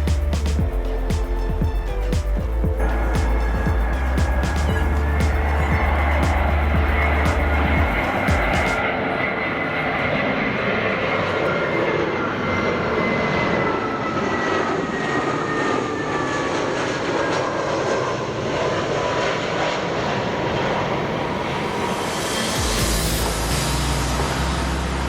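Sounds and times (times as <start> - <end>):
high engine whine falling: 0.0 - 16.8, 19.8 - 25.0
jet engines rushing: 0.0 - 25.0.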